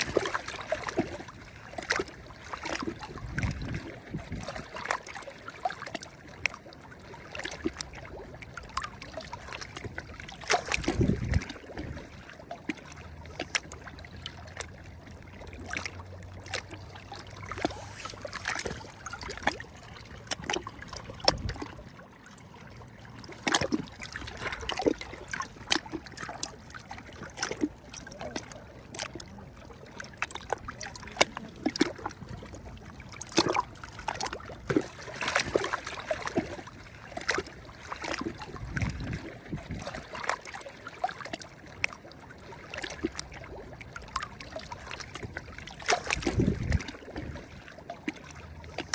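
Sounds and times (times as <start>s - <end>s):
small sea waves lapping: 0.0s - 48.9s.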